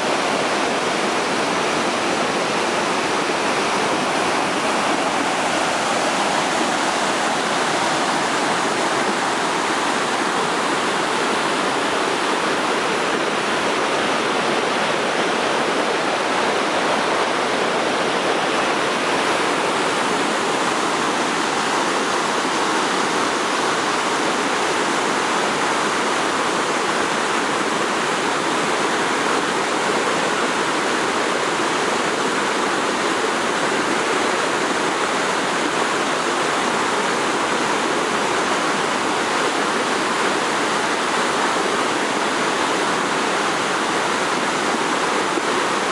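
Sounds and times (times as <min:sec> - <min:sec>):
water rushing over waterfall: 0:00.0 - 0:45.9.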